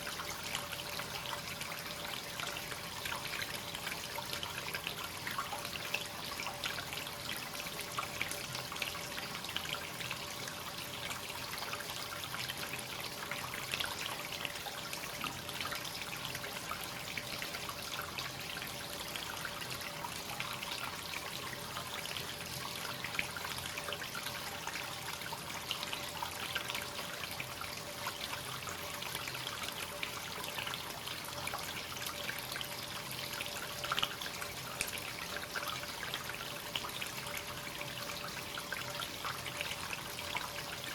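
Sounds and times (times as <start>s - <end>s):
small water drips: 0.0s - 40.9s.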